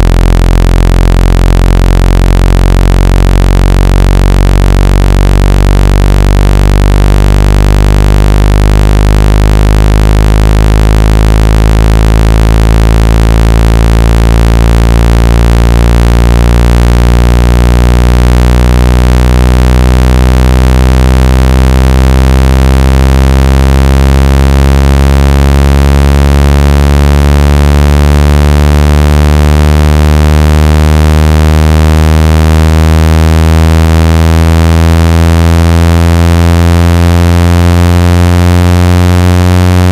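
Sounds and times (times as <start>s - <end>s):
loud synthetic buzzing tone: 0.0s - 39.9s.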